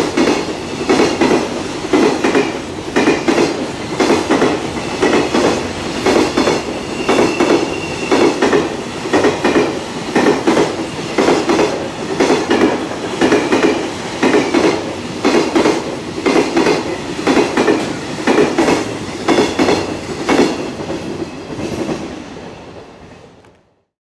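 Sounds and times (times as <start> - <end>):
freight train wheels clattering: 0.0 - 22.2
train rolling rumble: 0.0 - 23.5.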